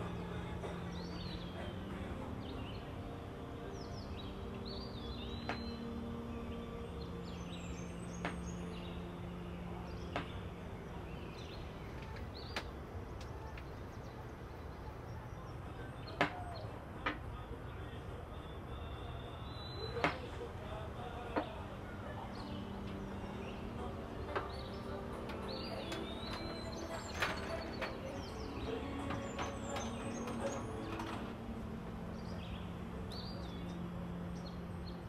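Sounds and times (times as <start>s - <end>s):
small birds chirping: 0.0s - 35.0s
steady background hiss: 0.0s - 35.0s.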